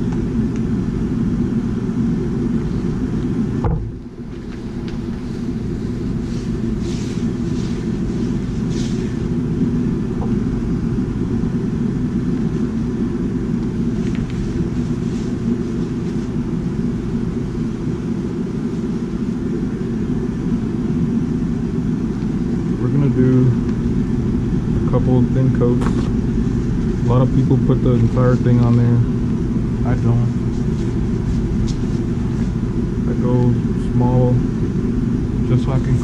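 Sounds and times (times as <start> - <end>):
gas burner rumbling: 0.0 - 36.0.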